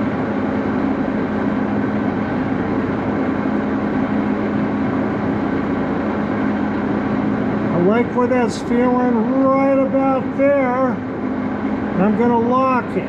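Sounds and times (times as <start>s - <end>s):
lathe drive humming: 0.0s - 13.0s.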